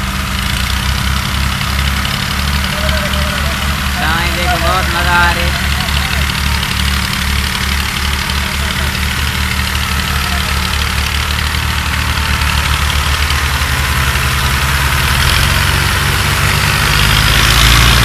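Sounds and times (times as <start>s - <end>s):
tractor diesel engine chugging: 0.0s - 18.0s.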